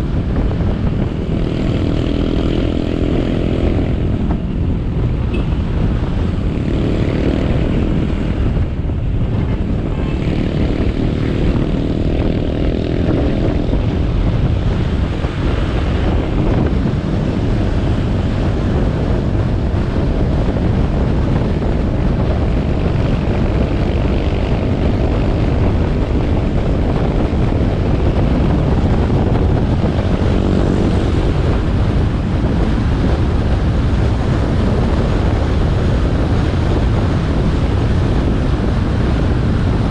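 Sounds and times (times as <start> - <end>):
motorcycle engine running: 0.0 - 39.9
road noise: 0.0 - 39.9
wind rushing on microphone: 0.0 - 39.9.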